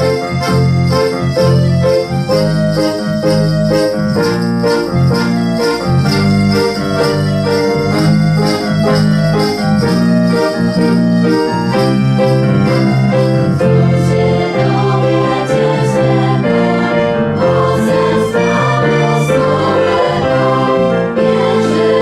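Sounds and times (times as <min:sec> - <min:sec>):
organ-like keyboard chords: 0:00.0 - 0:22.0.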